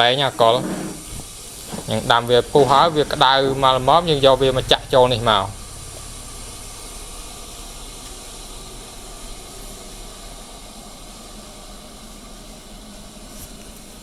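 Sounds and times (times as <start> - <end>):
liquid simmering hiss: 0.0 - 14.0.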